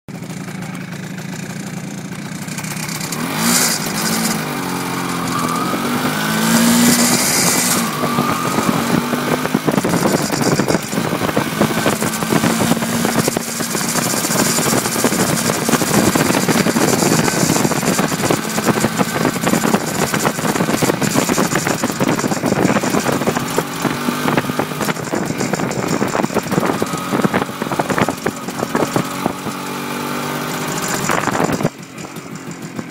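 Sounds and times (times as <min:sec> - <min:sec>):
motorcycle two-stroke engine revving: 0:00.1 - 0:32.9.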